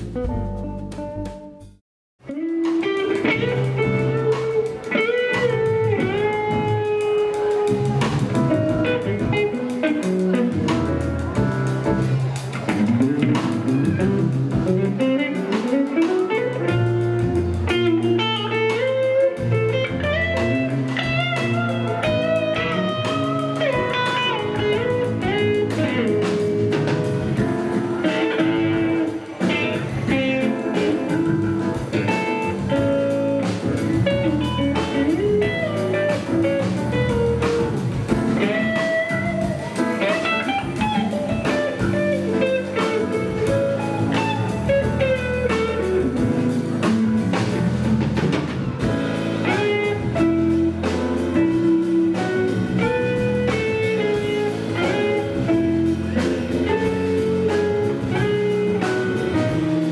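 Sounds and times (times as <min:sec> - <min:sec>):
drum kit: 0:00.0 - 0:59.9
lead guitar: 0:00.0 - 0:59.9
live blues band: 0:00.0 - 0:59.9.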